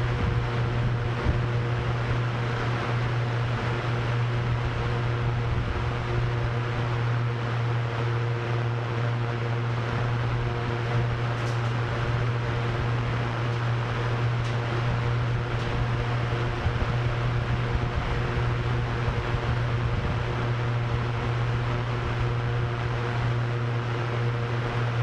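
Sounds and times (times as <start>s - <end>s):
rushing wind: 0.0s - 8.2s, 9.7s - 25.0s
drone propellers humming: 0.0s - 25.0s.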